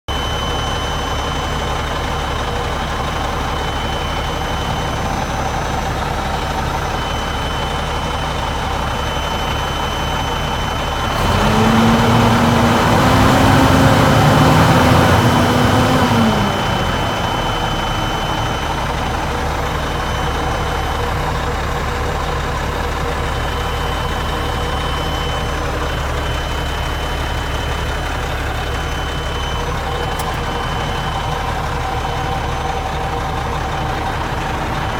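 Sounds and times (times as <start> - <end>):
diesel truck engine idling and revving: 0.1 - 34.9.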